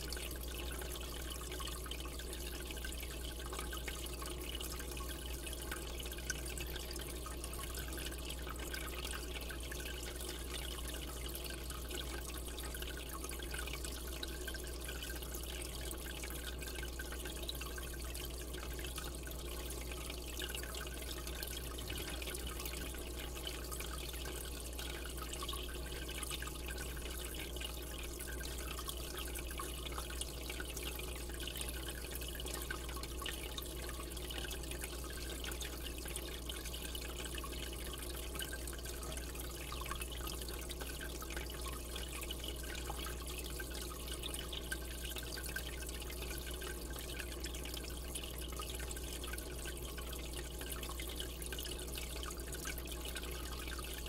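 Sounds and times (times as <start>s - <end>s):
aquarium water trickling and bubbling: 0.0s - 54.0s
low steady hum: 0.0s - 54.0s.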